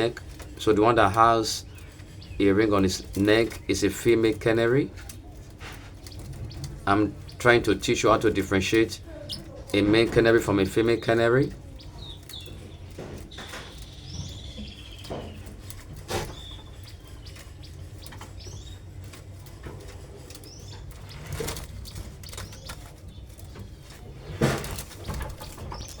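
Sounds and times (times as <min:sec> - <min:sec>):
canaries chirping: 0:00.0 - 0:26.0
wings fluttering: 0:00.0 - 0:26.0
small knocks: 0:04.9 - 0:26.0.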